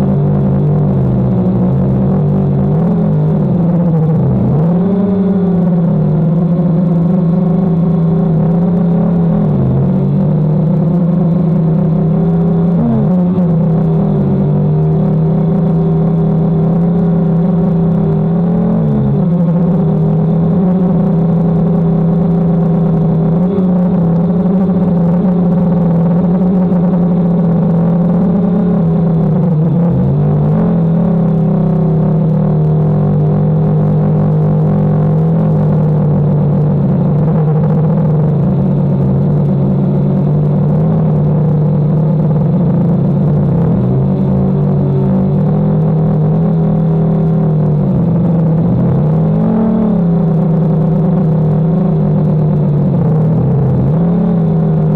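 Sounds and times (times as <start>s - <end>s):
drone propellers humming: 0.0s - 54.9s.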